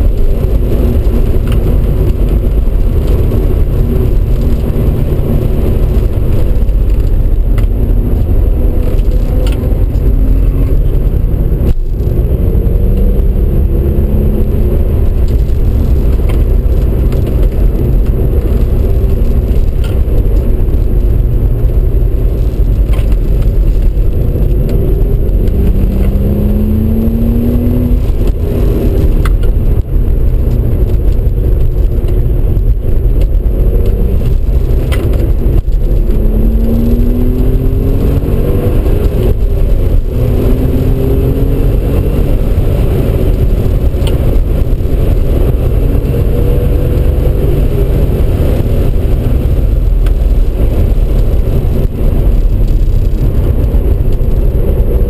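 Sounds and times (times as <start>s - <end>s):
car cabin engine and road rumble: 0.0s - 55.0s.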